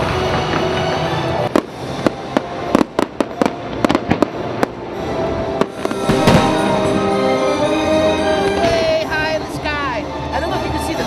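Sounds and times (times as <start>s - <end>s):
fireworks bursting with sharp bangs: 0.0s - 9.1s
music playing: 0.0s - 11.0s.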